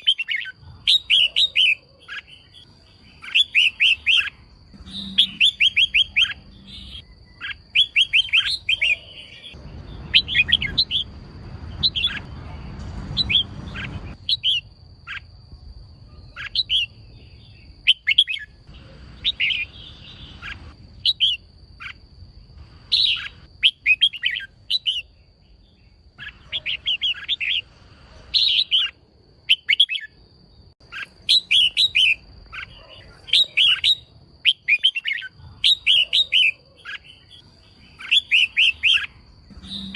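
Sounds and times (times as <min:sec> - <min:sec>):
bird rapid high chirps: 0:00.0 - 0:30.2, 0:30.8 - 0:39.9.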